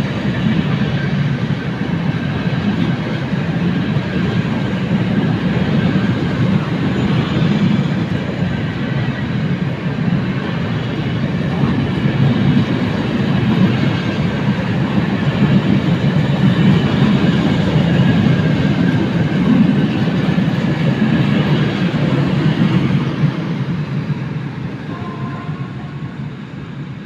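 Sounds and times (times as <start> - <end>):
wheels clickety-clack: 0.0 - 24.2
freight train wheels rumbling on rail: 0.0 - 27.0.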